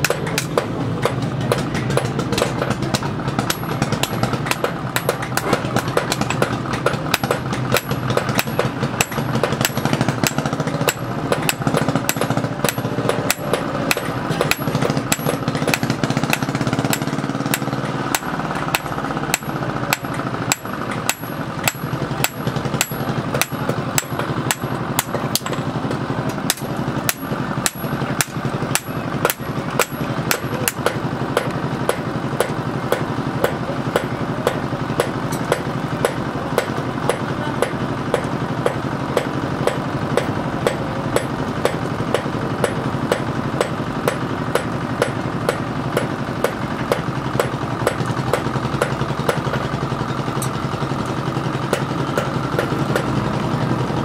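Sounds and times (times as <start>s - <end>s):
steady motor hum: 0.0s - 54.0s.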